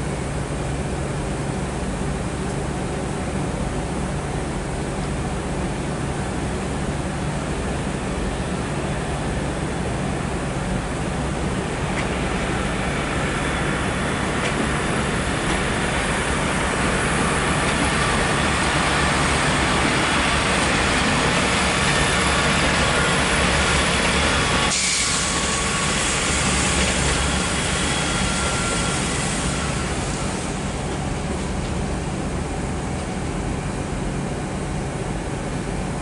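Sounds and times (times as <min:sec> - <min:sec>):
train engine rumble: 0:00.0 - 0:36.0.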